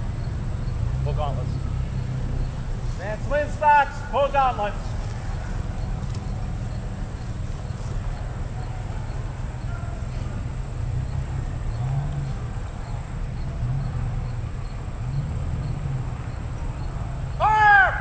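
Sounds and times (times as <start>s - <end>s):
faint distant voices: 0.0s - 18.0s.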